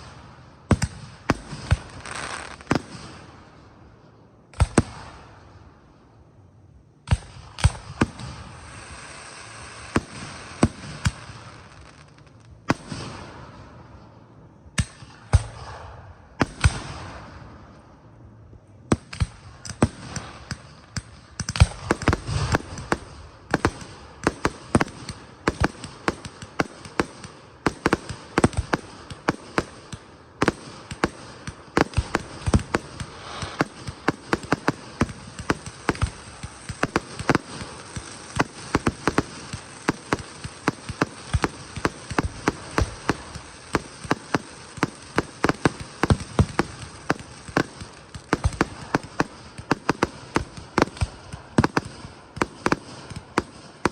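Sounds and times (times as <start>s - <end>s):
fireworks bursting with bangs: 0.0s - 6.3s, 6.9s - 53.9s.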